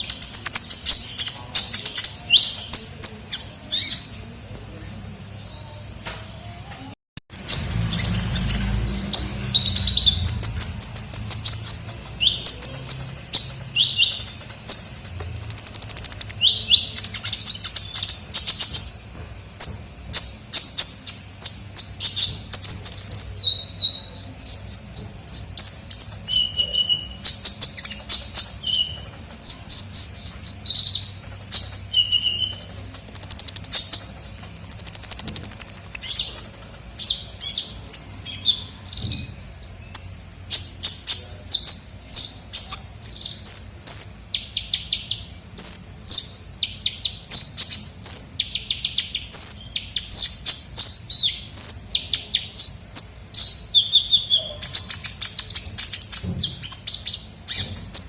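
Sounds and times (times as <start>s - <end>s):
sunbird singing: 7.3s - 19.0s, 19.6s - 58.0s.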